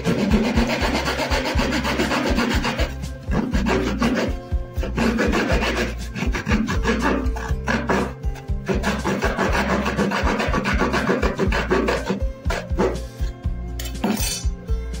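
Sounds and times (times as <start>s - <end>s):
hacksaw sawing through tube: 0.0s - 14.4s.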